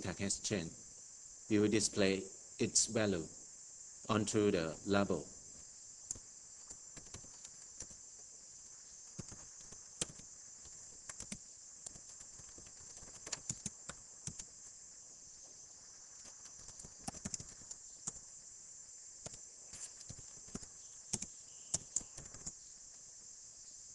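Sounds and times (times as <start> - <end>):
steady high hiss: 0.0 - 23.9.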